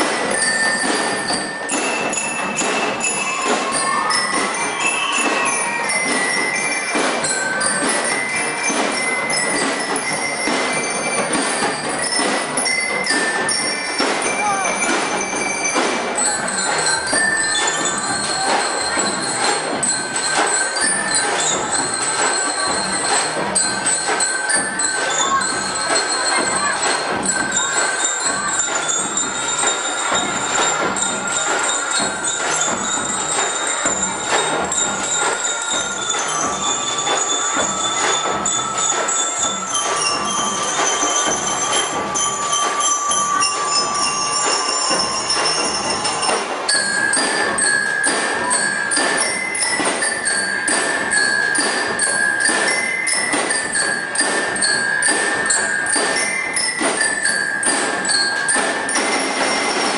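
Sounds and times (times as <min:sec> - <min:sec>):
bell lyres ringing melody: 0:00.0 - 0:59.9
steady drum beat: 0:00.0 - 0:59.9.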